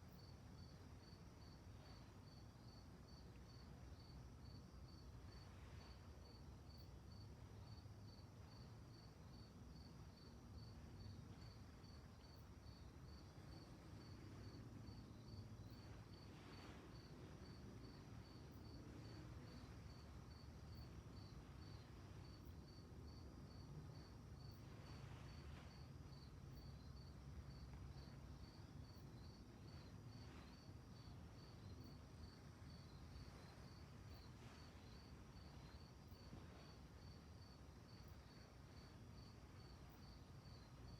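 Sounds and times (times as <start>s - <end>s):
crickets chirping: 0.0s - 40.9s
low steady rumble: 0.0s - 40.9s.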